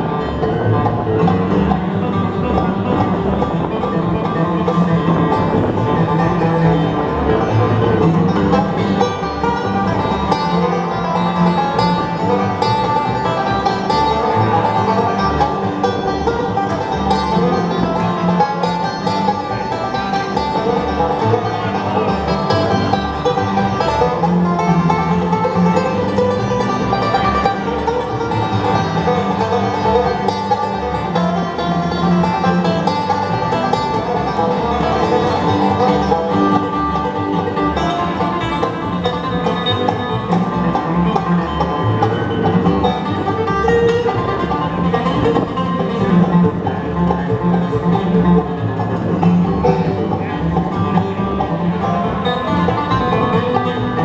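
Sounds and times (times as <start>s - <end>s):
banjo picking: 0.0s - 54.0s
guitar picking: 0.0s - 54.0s
walking bass line: 0.0s - 54.0s.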